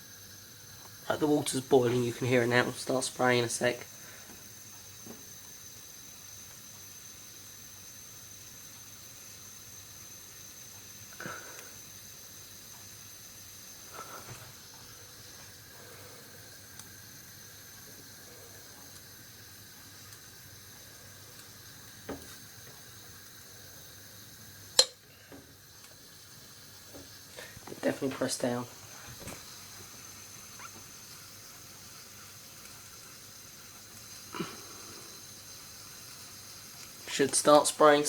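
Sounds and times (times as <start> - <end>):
boiling water hissing: 0.0 - 38.0.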